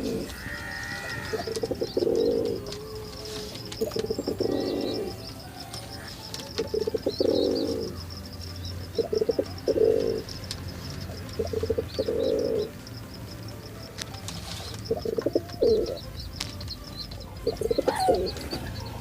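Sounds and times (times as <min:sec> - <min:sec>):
pigeons cooing: 0:00.0 - 0:12.8, 0:14.4 - 0:19.0
small birds chirping: 0:00.0 - 0:19.0.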